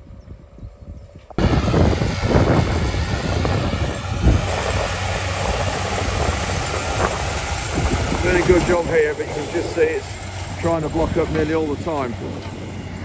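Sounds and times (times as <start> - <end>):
tractor engine and rolling press: 1.1 - 13.0.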